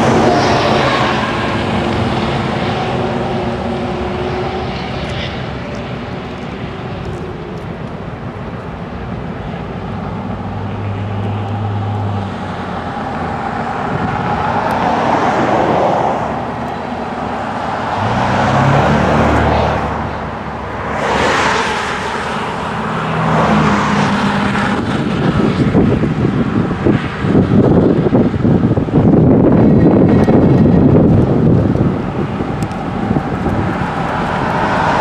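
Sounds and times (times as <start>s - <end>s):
vehicle engines humming: 0.0s - 35.0s
vehicles passing: 0.0s - 35.0s.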